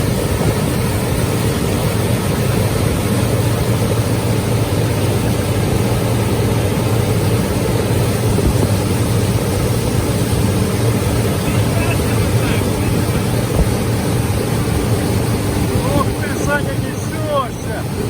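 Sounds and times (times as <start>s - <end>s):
outboard motor running: 0.0s - 18.0s
wind and water rushing: 0.0s - 18.0s.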